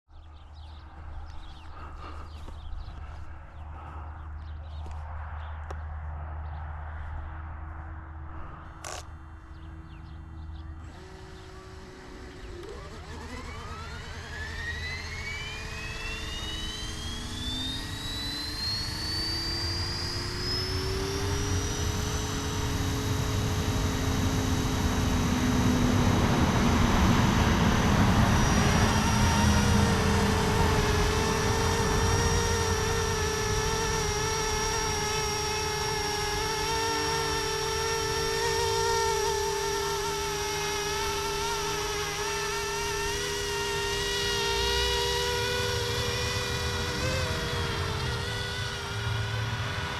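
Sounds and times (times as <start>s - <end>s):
helicopter motor and rotor whine: 0.2s - 6.1s, 7.0s - 49.9s.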